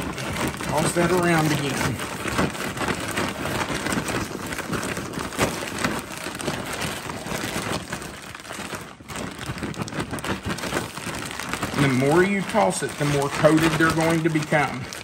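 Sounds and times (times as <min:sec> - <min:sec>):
cereal pieces rustling in bag: 0:00.0 - 0:15.0
plastic bag crinkling: 0:00.0 - 0:15.0.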